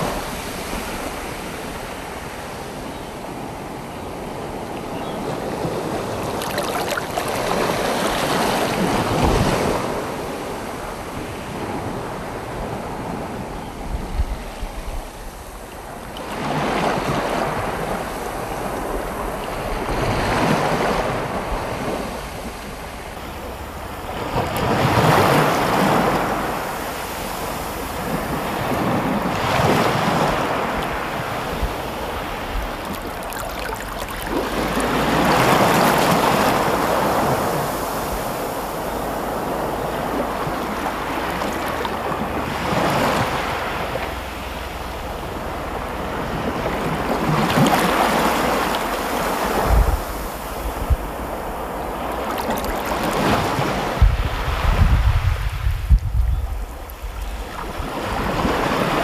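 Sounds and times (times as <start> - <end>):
wind rumble on microphone: 0.0 - 59.0
waves washing over pebbles: 5.4 - 11.0, 16.2 - 59.0.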